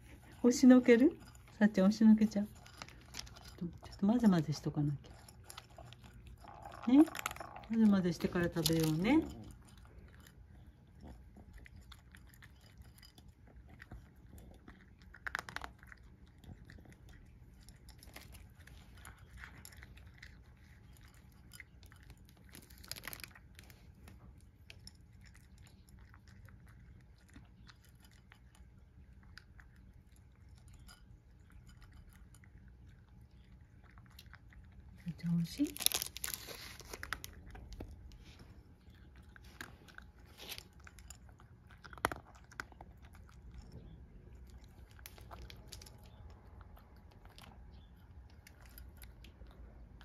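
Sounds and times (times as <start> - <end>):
cat crunching dry food: 0.0 - 50.0.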